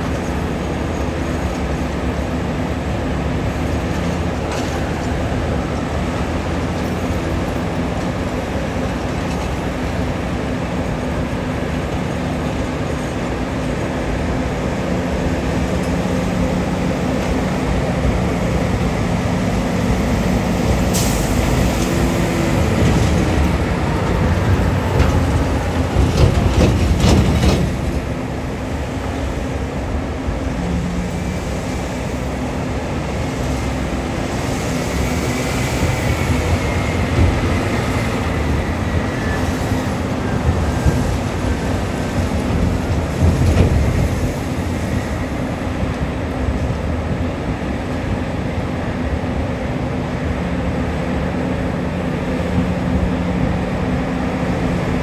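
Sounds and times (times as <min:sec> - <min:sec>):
rumble with clattering: 0:00.0 - 0:30.7, 0:31.4 - 0:55.0
heavy diesel engines droning: 0:00.0 - 0:55.0.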